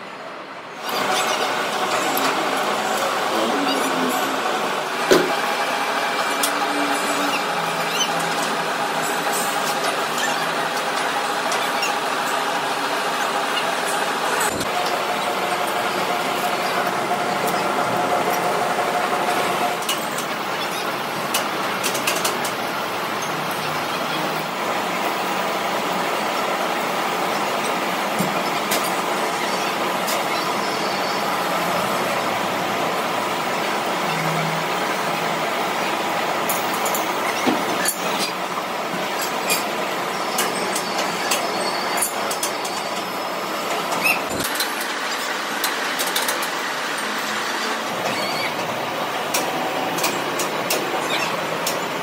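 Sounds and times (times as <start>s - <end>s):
factory machinery noise: 0.0s - 52.0s.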